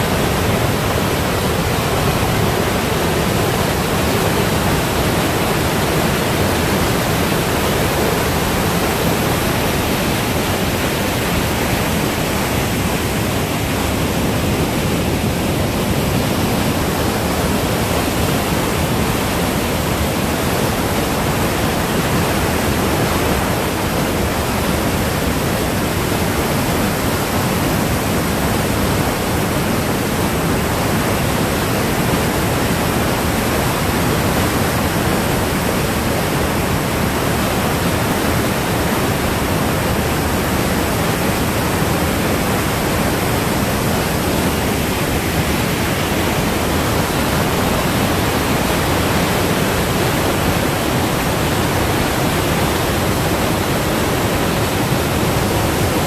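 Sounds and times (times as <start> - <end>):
river rushing through rocks: 0.0 - 56.0.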